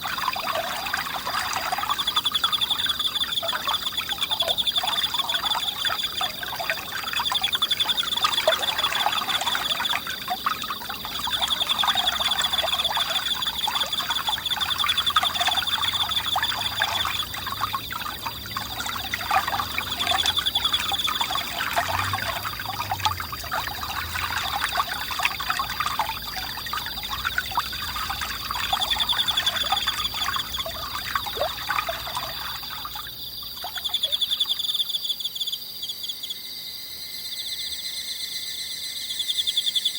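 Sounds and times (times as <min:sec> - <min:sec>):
stream babbling: 0:00.0 - 0:34.4
insects trilling: 0:00.0 - 0:39.9.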